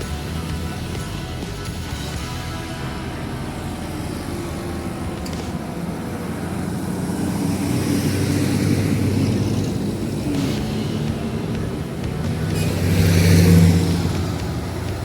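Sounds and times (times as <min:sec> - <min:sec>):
heavy truck engine approaching: 0:00.0 - 0:15.0.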